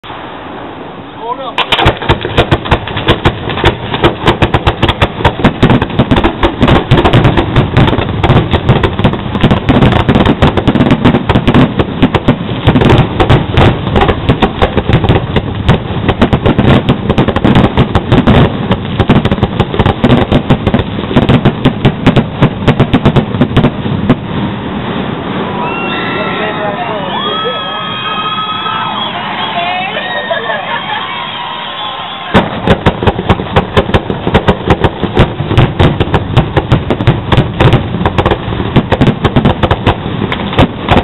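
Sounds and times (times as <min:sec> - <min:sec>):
fireworks booming and cracking: 0:00.0 - 0:41.0.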